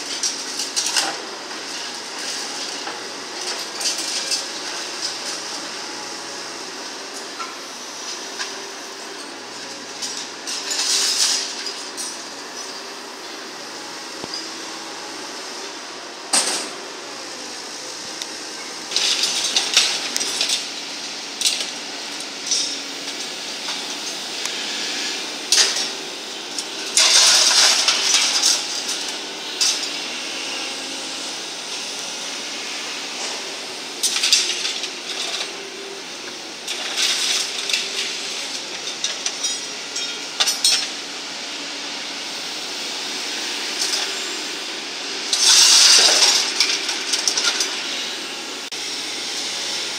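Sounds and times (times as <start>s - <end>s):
excavator engine droning: 0.0s - 49.9s.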